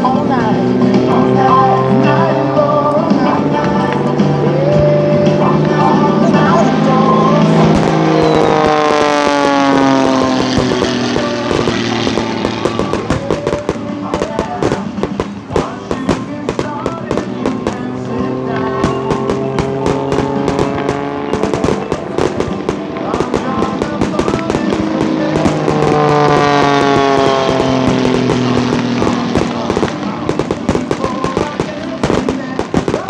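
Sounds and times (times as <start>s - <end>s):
music with long held notes: 0.0s - 33.0s
fireworks bursting and crackling: 3.0s - 33.0s.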